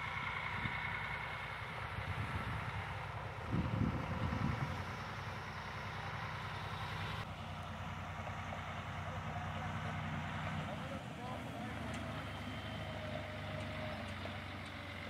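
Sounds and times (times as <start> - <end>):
truck engine at low revs: 0.0 - 15.0.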